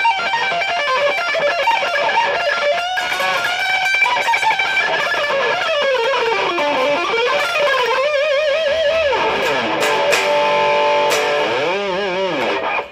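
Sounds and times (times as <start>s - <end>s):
overdriven electric guitar lead: 0.0s - 12.9s.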